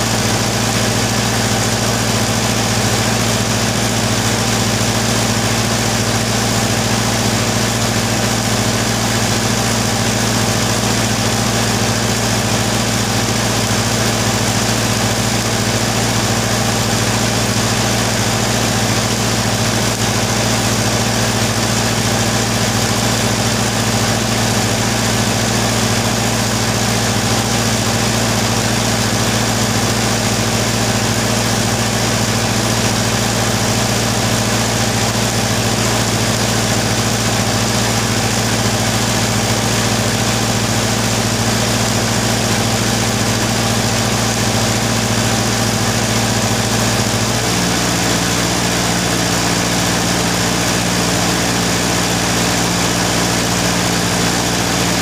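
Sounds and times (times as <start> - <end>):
welding hiss: 0.0 - 55.0
welding power supply hum: 0.0 - 55.0.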